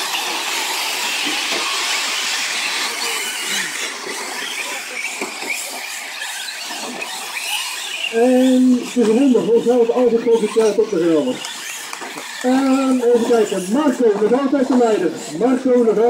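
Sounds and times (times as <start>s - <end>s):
rc truck motors whining: 0.0s - 16.0s.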